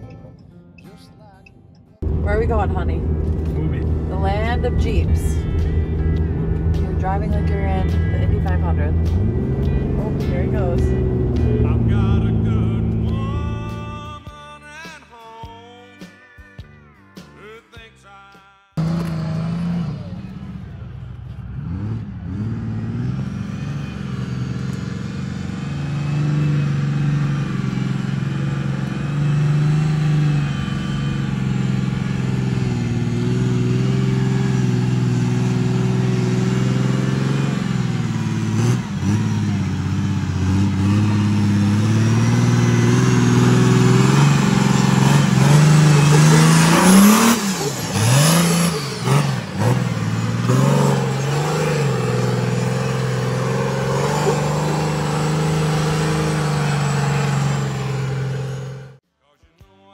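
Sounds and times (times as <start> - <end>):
buggy engine climbing: 0.0 - 14.2, 18.8 - 59.0
sharp throttle blips: 2.0 - 13.9, 18.8 - 59.0.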